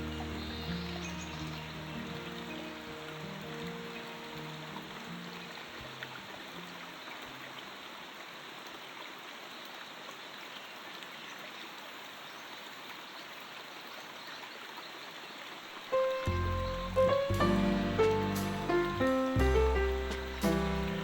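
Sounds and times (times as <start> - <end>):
stream running water: 0.0 - 21.0.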